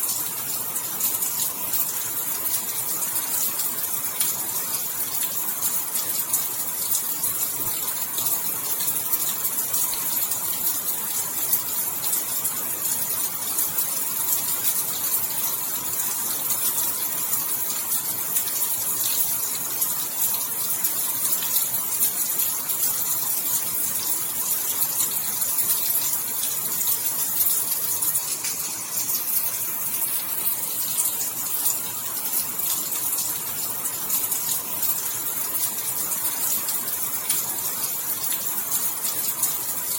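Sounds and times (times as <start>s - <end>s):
heavy rain: 0.0s - 39.9s
raindrop ticks: 0.1s - 39.9s.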